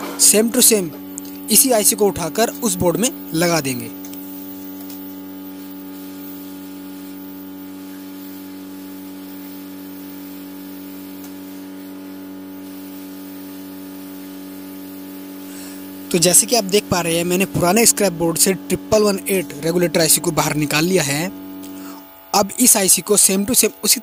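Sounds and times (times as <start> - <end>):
hot-air blower hissing: 0.0 - 24.0.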